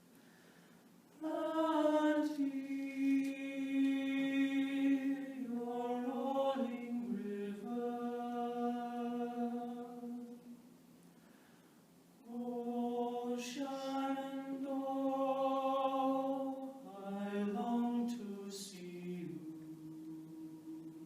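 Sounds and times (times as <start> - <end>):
male choir singing in harmony: 1.2 - 10.5, 12.3 - 21.0.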